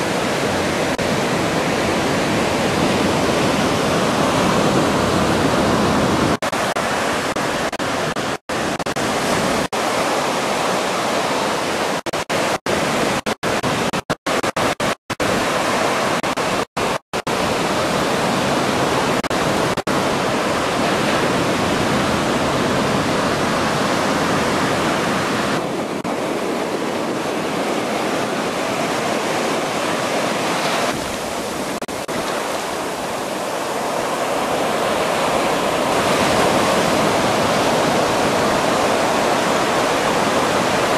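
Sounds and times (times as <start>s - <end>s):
ocean surf rushing: 0.0s - 40.9s.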